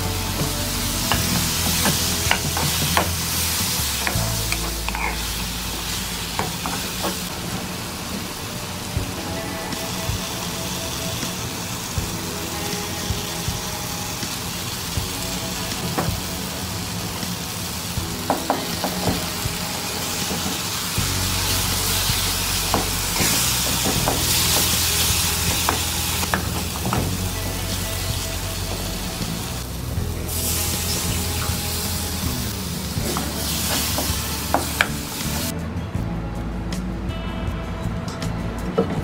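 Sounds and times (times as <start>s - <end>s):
food sizzling in a frying pan: 0.2s - 35.5s.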